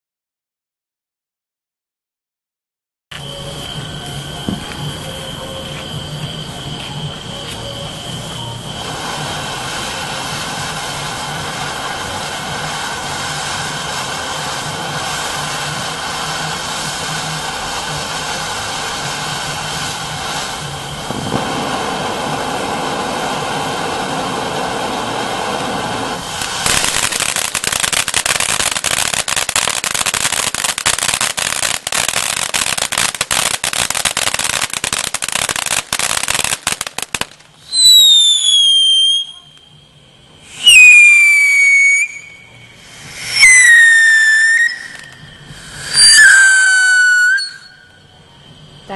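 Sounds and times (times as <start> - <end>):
firework fountain hissing: 3.1 - 48.9
firework rapid crackling: 3.1 - 48.9.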